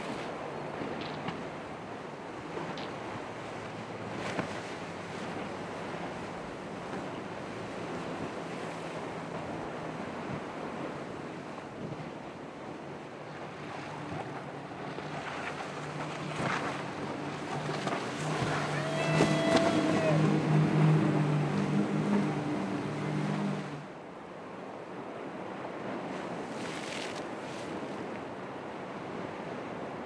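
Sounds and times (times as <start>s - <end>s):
faint low boat engine hum: 0.0s - 30.0s
waves washing: 0.0s - 30.0s.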